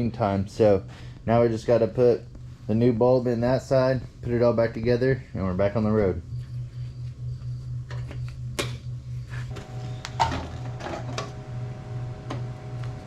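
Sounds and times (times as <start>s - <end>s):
pulsing low hum: 0.0s - 13.0s.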